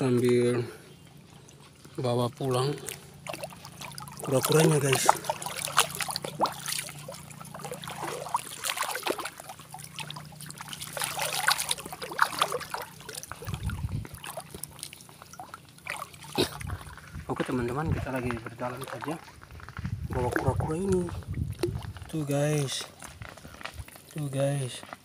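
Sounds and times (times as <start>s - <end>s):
footsteps wading through water: 0.0s - 25.0s.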